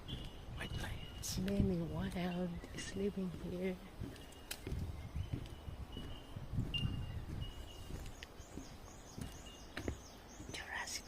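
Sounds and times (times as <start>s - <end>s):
low microphone rumble: 0.0s - 10.9s.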